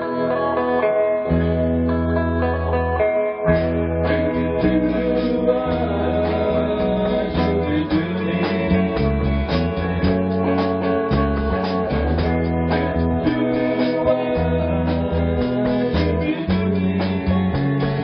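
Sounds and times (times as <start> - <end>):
guitar-led song: 0.0 - 18.0
person singing: 3.3 - 18.0.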